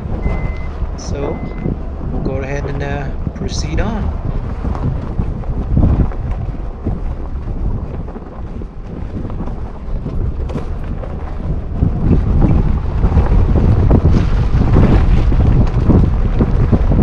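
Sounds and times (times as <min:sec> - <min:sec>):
engine and tyres rumbling: 0:00.0 - 0:17.0
wind buffeting microphone: 0:00.0 - 0:17.0.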